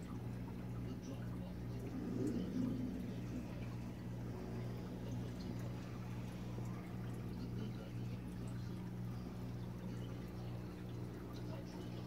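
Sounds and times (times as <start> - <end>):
aquarium equipment humming: 0.0 - 12.0
water trickling and dripping: 0.0 - 12.0.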